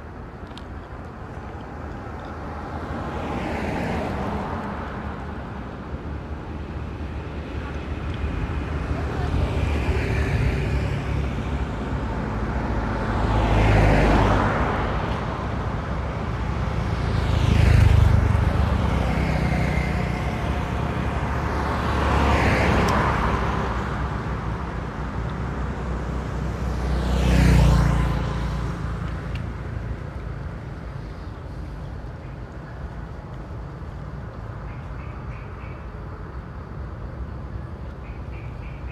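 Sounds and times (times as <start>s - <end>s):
low traffic rumble: 0.0s - 38.9s
vehicles passing on road: 0.0s - 38.9s.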